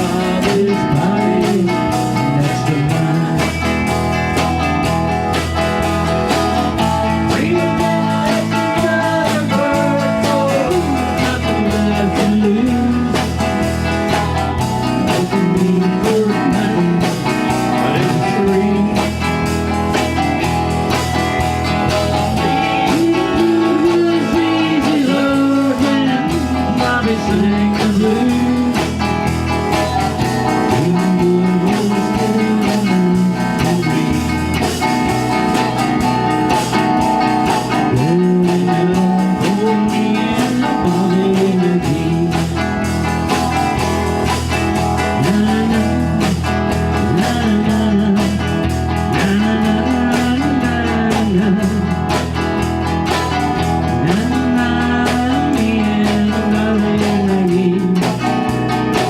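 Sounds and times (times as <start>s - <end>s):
bass line: 0.0s - 59.0s
lead guitar bending notes: 0.0s - 59.0s.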